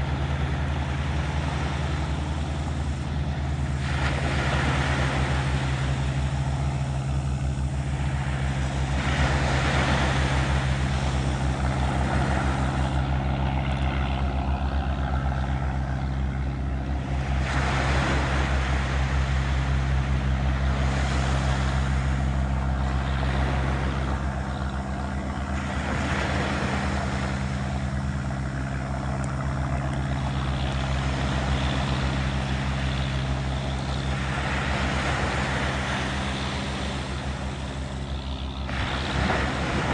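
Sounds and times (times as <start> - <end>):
engine running steadily: 0.0 - 39.9
waves washing in: 0.0 - 39.9.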